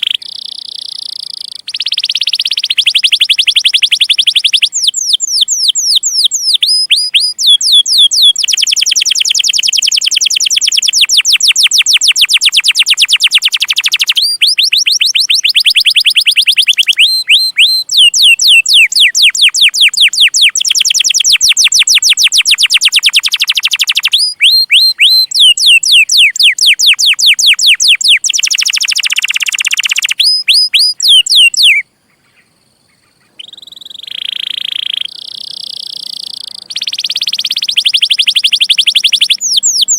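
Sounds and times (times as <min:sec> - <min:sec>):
canary singing: 0:00.0 - 0:31.8, 0:33.2 - 0:39.9.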